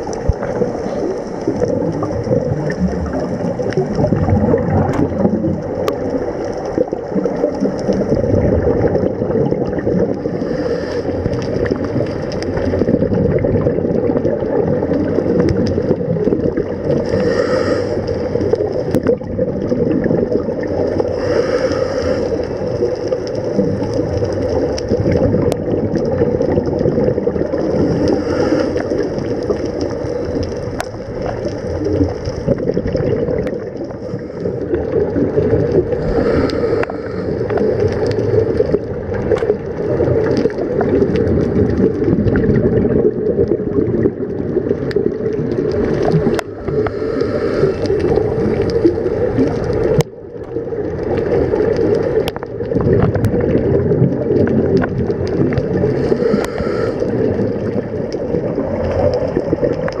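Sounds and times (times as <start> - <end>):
underwater gurgling rumble: 0.0 - 60.0.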